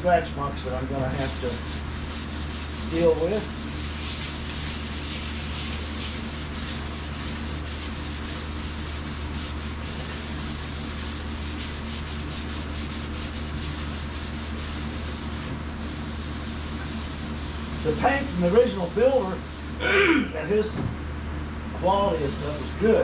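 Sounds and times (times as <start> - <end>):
steady low hum: 0.0 - 23.0
sandpaper on sheet metal: 1.2 - 19.8, 22.2 - 22.9.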